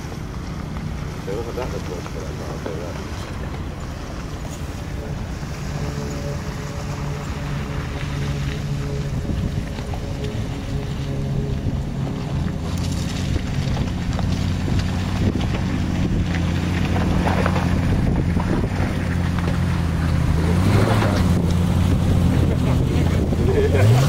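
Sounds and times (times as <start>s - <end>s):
engine running at low revs: 0.0s - 24.0s
wind buffeting microphone: 0.0s - 24.0s.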